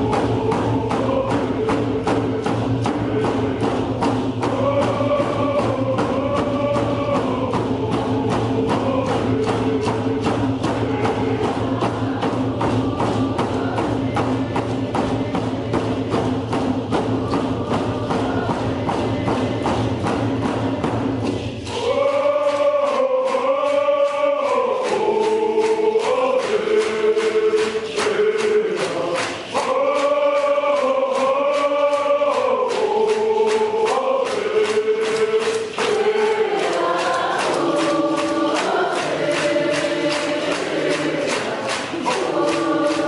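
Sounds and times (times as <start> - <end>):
group chanting song: 0.0 - 43.0
hand drums beating: 0.0 - 43.0.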